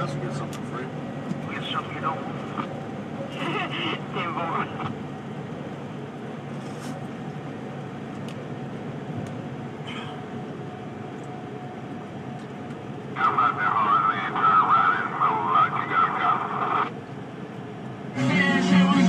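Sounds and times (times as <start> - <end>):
road and engine noise in cabin: 0.0 - 19.0.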